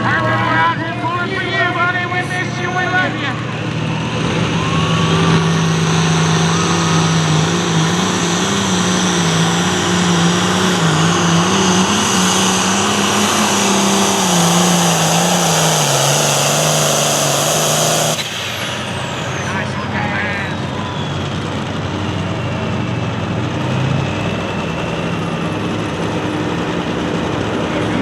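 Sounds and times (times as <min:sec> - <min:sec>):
tractor diesel engine revving hard: 0:02.8 - 0:28.0.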